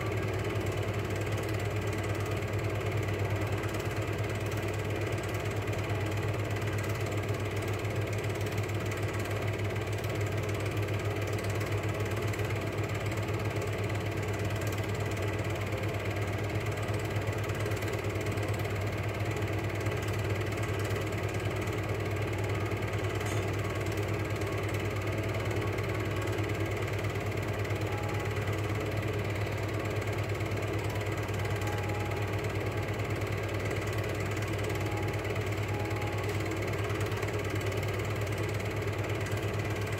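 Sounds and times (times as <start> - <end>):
projector motor whir: 0.0 - 39.9.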